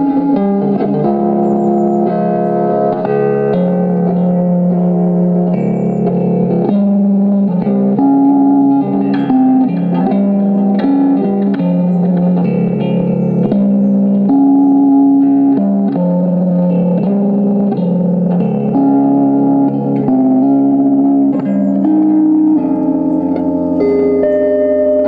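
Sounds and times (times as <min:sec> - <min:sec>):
electric guitar slow melody: 0:00.0 - 0:25.0.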